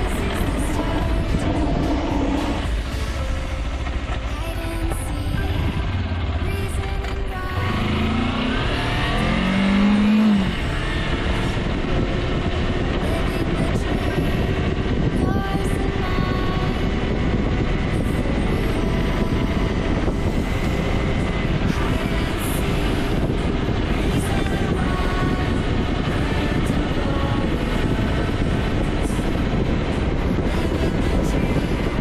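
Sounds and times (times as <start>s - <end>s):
motorcycle engine accelerating: 0.0s - 32.0s
wind and road noise: 0.0s - 32.0s.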